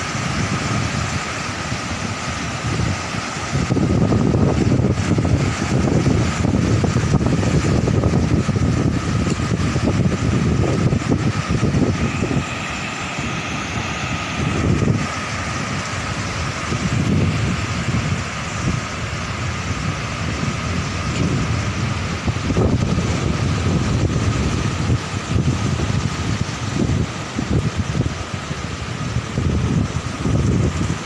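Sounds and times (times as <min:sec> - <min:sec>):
waves breaking on rocky shore: 0:00.0 - 0:31.0
wind buffeting microphone: 0:00.0 - 0:31.0.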